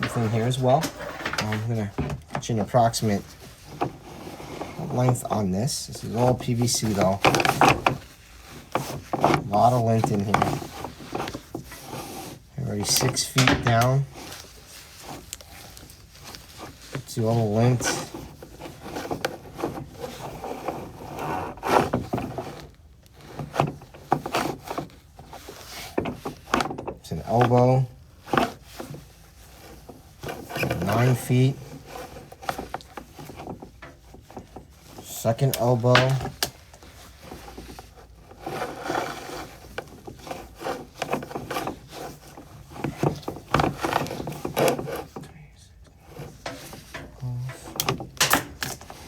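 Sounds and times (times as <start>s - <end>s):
cable scraping in pipe: 0.0s - 49.0s.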